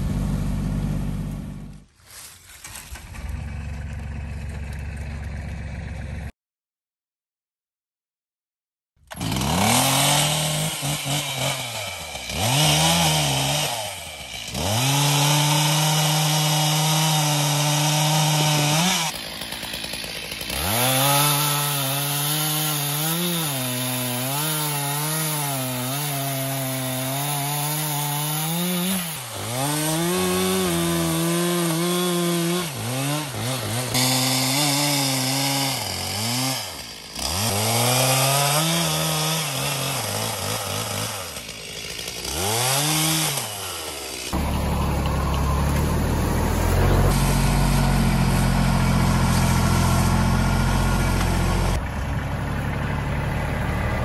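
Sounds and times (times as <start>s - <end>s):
chainsaw cutting logs: 0.0s - 3.4s, 9.0s - 54.0s.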